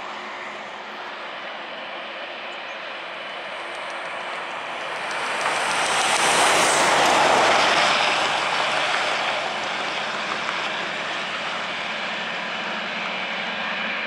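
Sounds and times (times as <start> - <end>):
jet airliner rolling past: 0.0 - 14.0.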